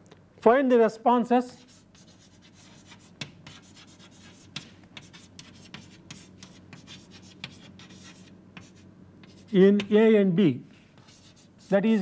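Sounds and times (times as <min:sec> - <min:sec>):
faint low hum: 0:00.0 - 0:12.0
chalk tapping and scratching: 0:01.6 - 0:10.0, 0:10.8 - 0:12.0.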